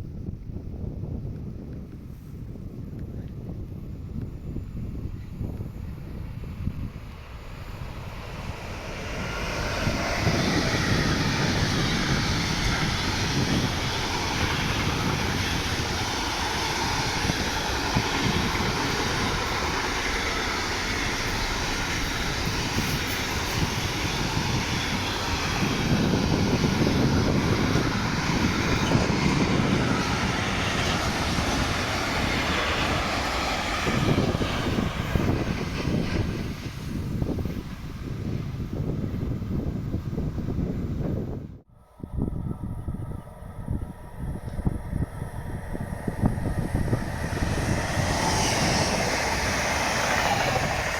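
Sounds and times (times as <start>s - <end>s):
train passing at speed: 0.0s - 50.9s.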